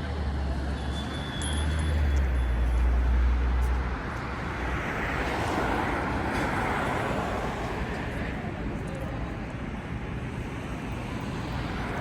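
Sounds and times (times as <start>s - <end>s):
deep traffic rumble: 0.0s - 12.0s.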